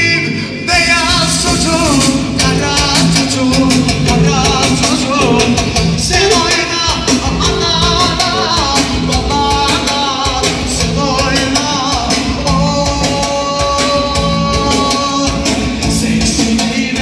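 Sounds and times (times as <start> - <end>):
live dance music with keyboard: 0.0 - 17.0
fast drum beat: 0.8 - 17.0.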